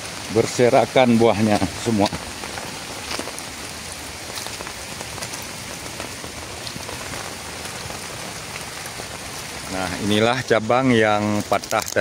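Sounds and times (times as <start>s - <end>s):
rain falling on foliage: 0.0s - 12.0s
sharp raindrop hits: 0.0s - 12.0s.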